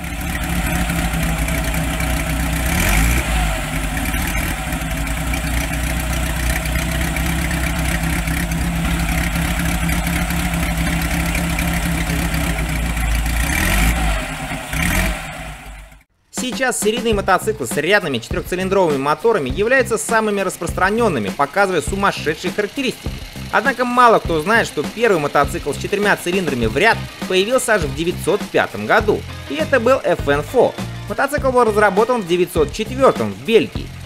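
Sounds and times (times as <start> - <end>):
motorcycle engine idling: 0.0 - 16.1, 17.1 - 34.0
motorcycle engine revving: 0.0 - 16.1, 19.5 - 34.0.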